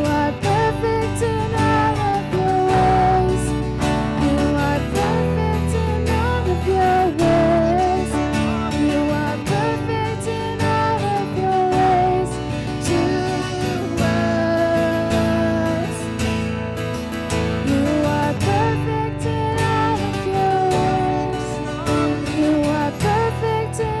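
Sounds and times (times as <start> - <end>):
person singing: 0.0 - 24.0
strummed acoustic guitar: 0.0 - 24.0.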